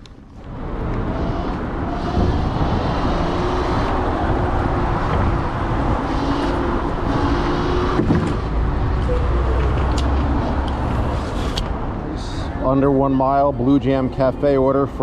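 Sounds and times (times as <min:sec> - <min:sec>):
road traffic rushing: 0:00.0 - 0:15.0
wind: 0:00.0 - 0:15.0.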